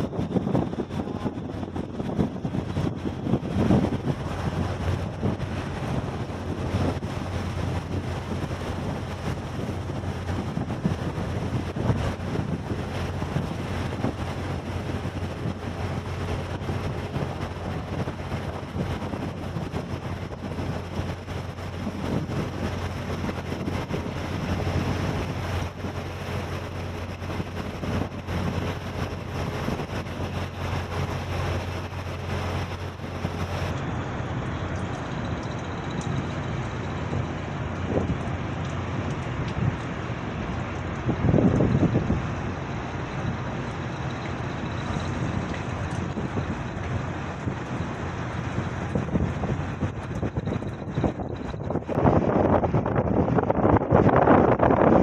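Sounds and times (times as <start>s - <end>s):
sea noise: 0.0s - 55.0s
ship engine drone: 0.0s - 55.0s
wind buffeting microphone: 0.0s - 55.0s.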